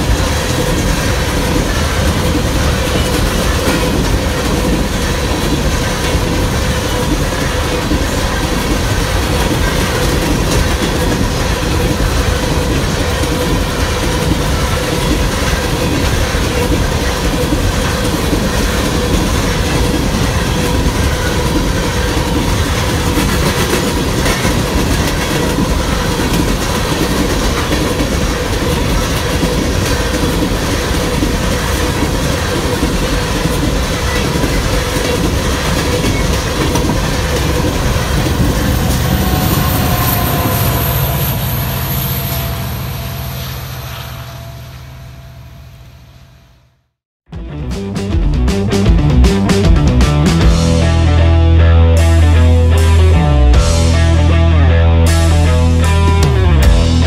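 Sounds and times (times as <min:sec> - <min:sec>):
freight train cars rolling past: 0:00.0 - 0:46.7.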